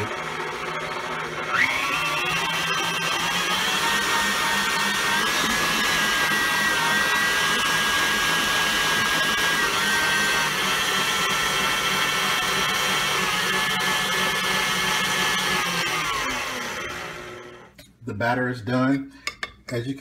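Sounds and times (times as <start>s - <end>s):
stand mixer whirring: 0.0s - 17.7s.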